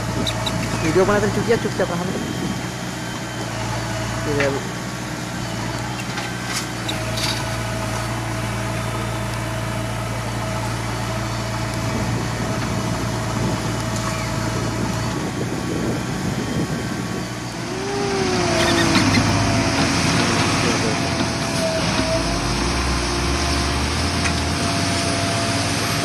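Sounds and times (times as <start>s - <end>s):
heavy diesel engines running: 0.0s - 26.0s
truck driving over dirt: 0.0s - 26.0s.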